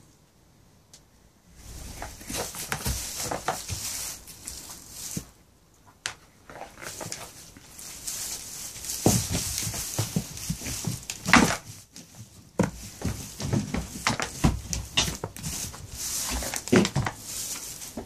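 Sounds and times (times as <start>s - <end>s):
straw rustling and crackling: 1.5s - 18.0s.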